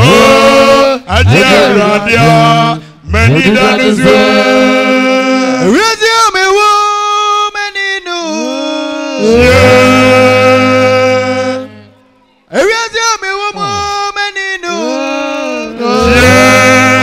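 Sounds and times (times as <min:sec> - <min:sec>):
man singing a church song: 0:00.0 - 0:11.9, 0:12.5 - 0:17.0.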